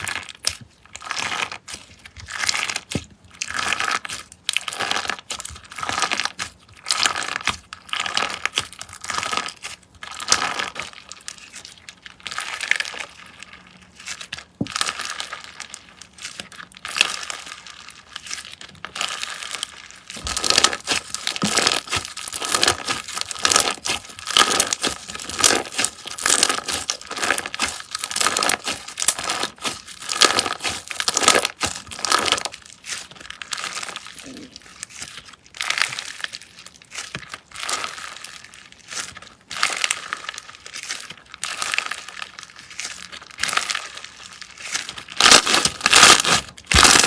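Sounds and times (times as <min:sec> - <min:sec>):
slime squeezed and crackling: 0:00.0 - 0:47.0.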